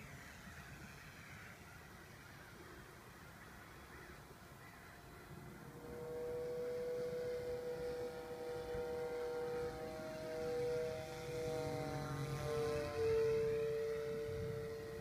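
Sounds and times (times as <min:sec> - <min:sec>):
model airplane motor whine: 0:00.0 - 0:15.0.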